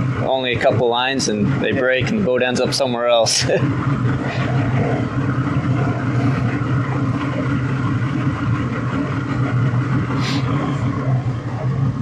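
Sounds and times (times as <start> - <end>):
outboard engine idling: 0.0 - 12.0.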